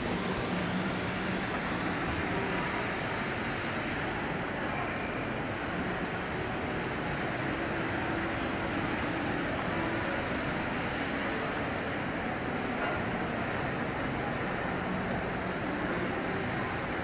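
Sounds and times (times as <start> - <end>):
distant murmur of people: 0.0 - 17.0
fountain jets splashing: 0.0 - 17.0.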